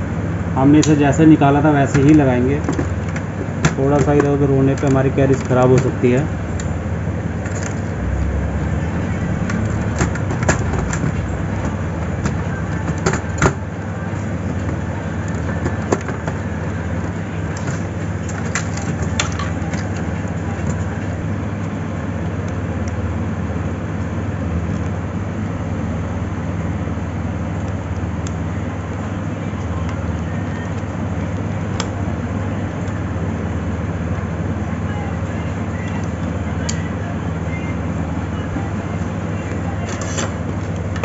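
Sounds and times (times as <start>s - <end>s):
low background hum and rumble: 0.0s - 41.0s.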